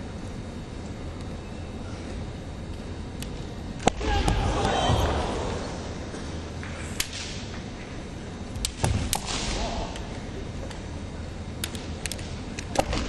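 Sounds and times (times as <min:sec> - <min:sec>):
arena background noise: 0:00.0 - 0:13.0.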